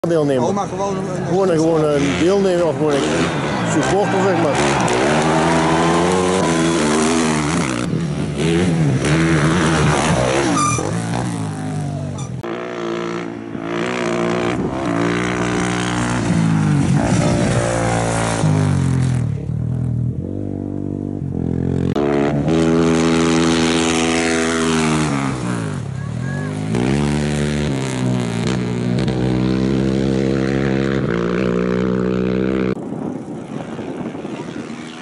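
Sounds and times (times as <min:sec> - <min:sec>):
motorcycle engine revving past: 0:01.8 - 0:35.0.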